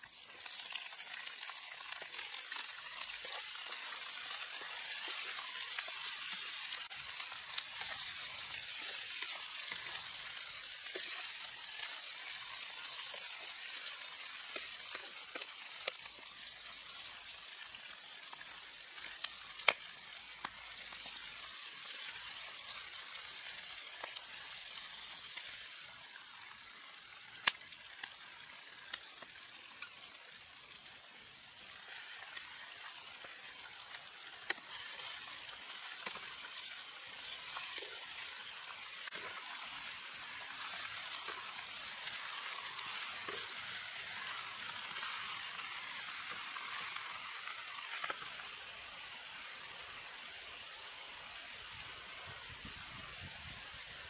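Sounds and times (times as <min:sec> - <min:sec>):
hot oil sizzling: 0:00.0 - 0:54.0.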